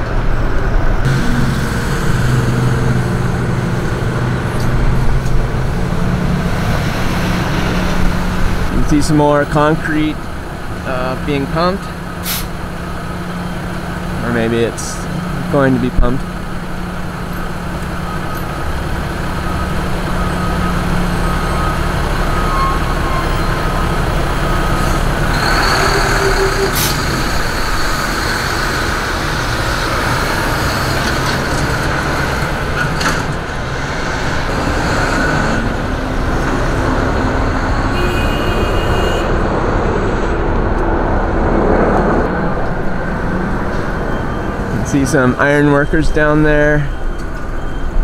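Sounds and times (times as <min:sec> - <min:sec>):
heavy vehicle engines rumbling: 0:00.0 - 0:48.0
traffic noise: 0:00.0 - 0:48.0.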